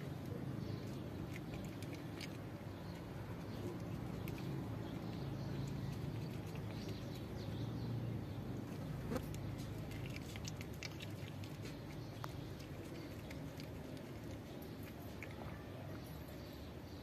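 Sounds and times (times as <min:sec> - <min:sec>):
cat crunching dry kibble: 0:00.0 - 0:07.6, 0:08.6 - 0:16.0.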